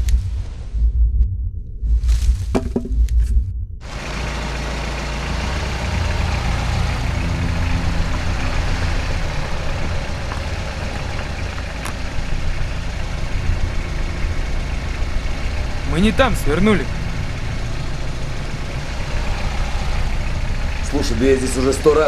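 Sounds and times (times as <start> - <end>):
van engine rumble: 1.9 - 22.0
tyre and road noise: 2.0 - 22.0.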